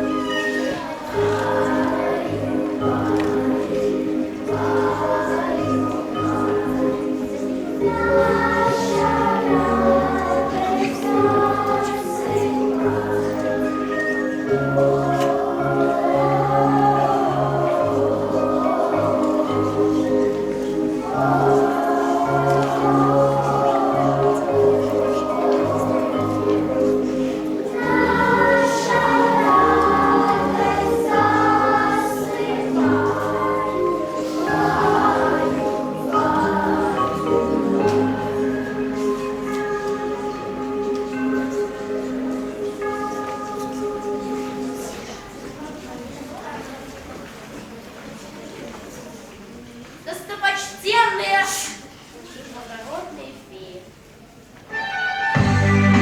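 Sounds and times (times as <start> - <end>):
musical accompaniment: 0.0 - 45.7, 54.6 - 56.0
choir singing held notes: 0.0 - 46.7, 54.7 - 56.0.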